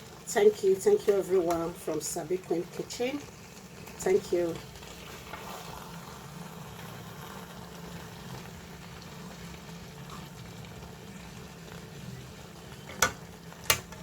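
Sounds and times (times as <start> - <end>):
sauce sizzling and bubbling: 0.0 - 14.0.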